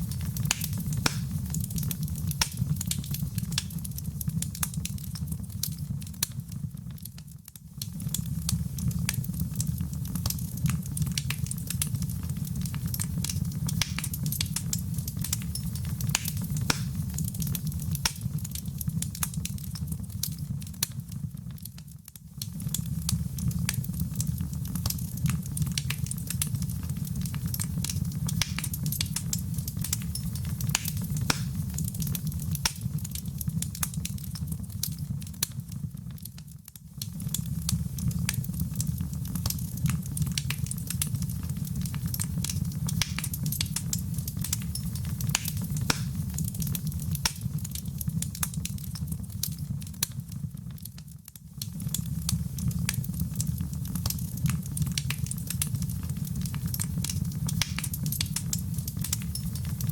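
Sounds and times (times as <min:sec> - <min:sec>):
fire flames rumbling: 0:00.0 - 0:07.2, 0:07.8 - 0:21.7, 0:22.4 - 0:59.9
burning logs crackling and popping: 0:00.0 - 0:59.9.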